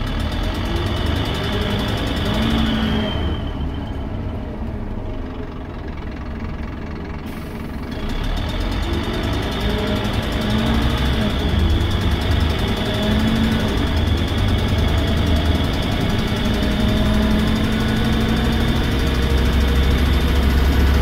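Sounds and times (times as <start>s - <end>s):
bus diesel engine running: 0.0s - 21.0s
loud exhaust beat: 0.0s - 21.0s.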